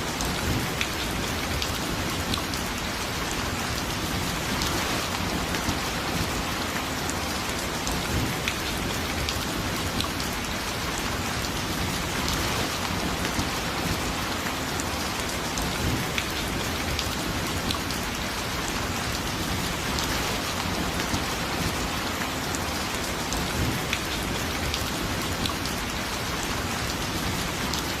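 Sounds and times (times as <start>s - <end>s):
light rain falling: 0.0s - 28.0s
raindrops ticking close by: 0.0s - 28.0s.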